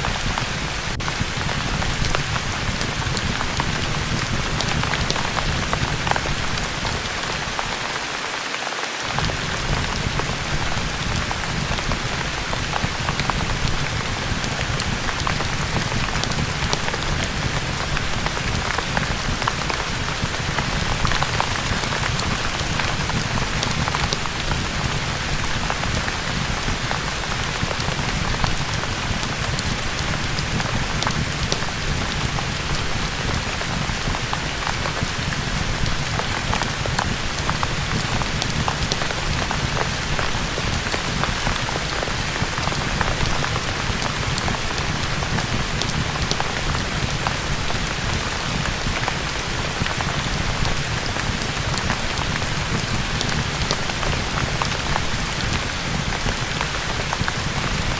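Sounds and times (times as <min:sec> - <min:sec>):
steady rain: 0:00.0 - 0:57.9
fireplace crackle: 0:09.0 - 0:57.8.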